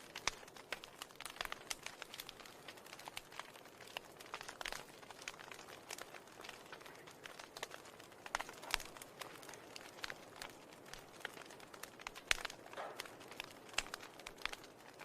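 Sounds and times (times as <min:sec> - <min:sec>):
crackling and clicking: 0:00.0 - 0:15.0.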